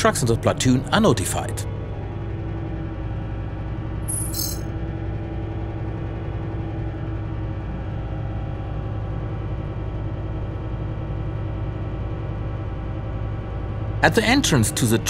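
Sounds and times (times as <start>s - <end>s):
truck engine hum with road noise: 0.0s - 15.0s.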